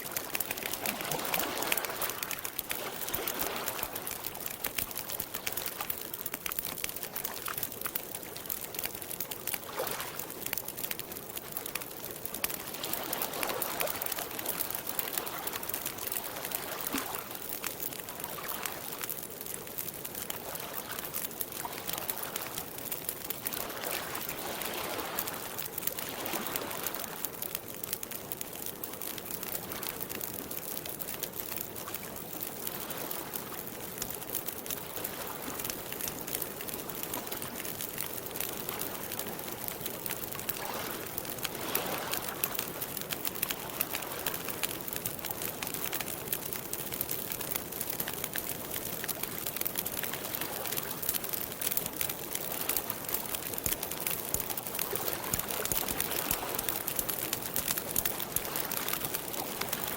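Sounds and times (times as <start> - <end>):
campfire crackling and popping: 0.0 - 59.9
water lapping the shore: 0.0 - 59.9.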